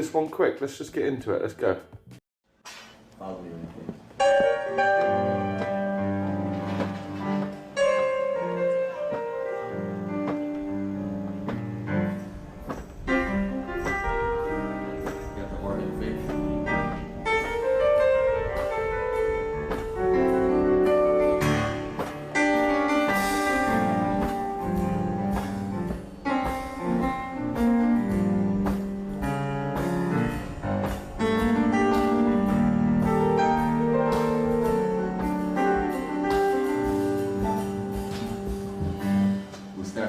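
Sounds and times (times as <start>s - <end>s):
instrumental band music: 4.2s - 40.0s
keyboard chords: 4.2s - 40.0s.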